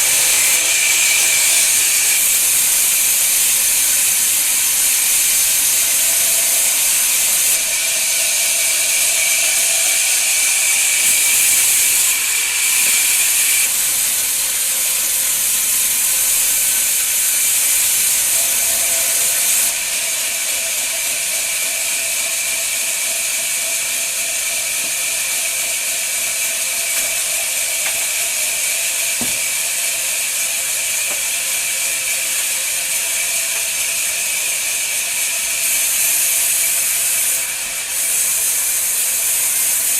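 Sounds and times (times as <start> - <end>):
woodworking machine cutting wood: 0.0 - 39.9.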